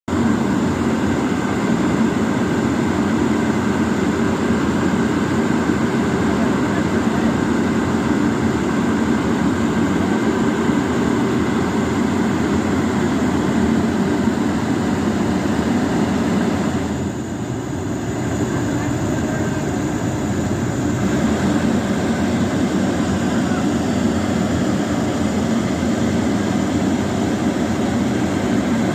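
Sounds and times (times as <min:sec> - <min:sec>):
excavator diesel engine running: 0:00.1 - 0:28.9.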